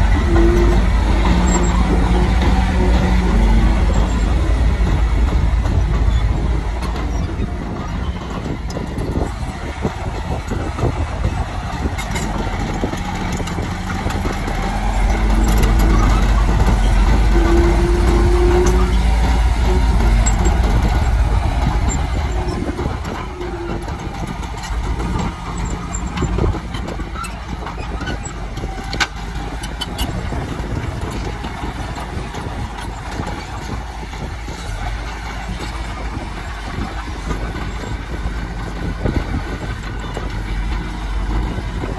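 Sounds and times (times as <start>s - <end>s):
bulldozer diesel engine rumbling: 0.0s - 41.9s.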